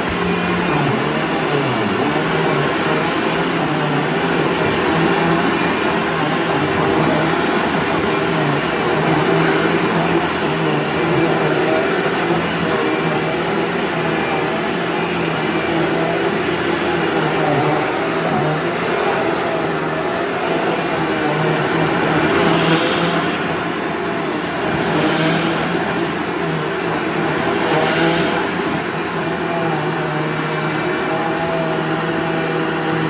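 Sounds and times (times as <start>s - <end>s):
vacuum cleaner running on a rug: 0.0s - 33.0s.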